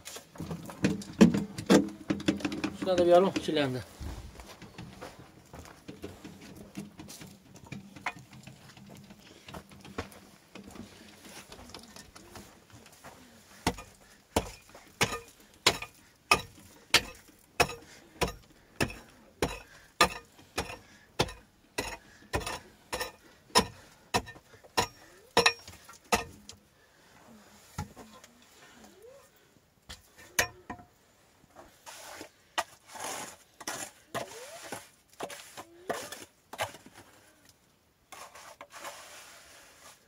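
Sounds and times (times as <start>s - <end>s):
faint knocks and scraping: 0.0s - 40.0s.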